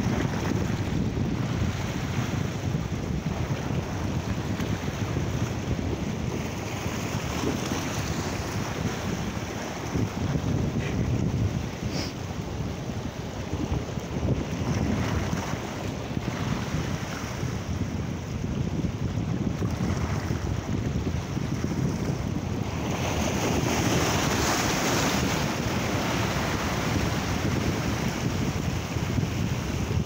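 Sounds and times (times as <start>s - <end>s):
waves breaking on rocky shore: 0.0s - 30.0s
wind buffeting microphone: 0.0s - 30.0s.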